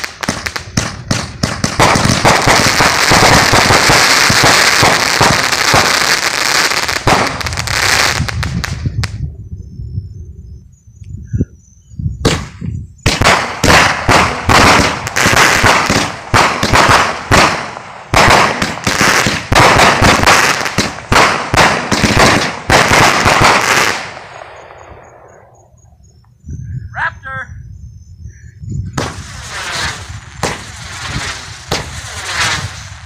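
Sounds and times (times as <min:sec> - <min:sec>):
fireworks bangs and crackle: 0:00.0 - 0:09.2, 0:12.2 - 0:25.8, 0:28.8 - 0:33.0.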